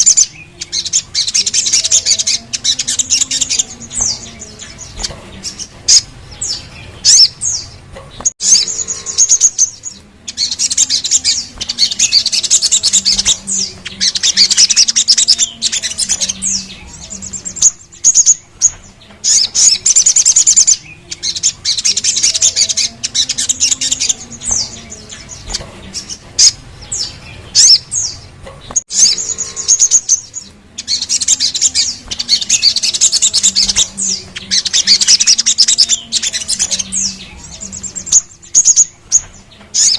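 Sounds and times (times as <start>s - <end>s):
bird trilling: 0.0s - 39.9s.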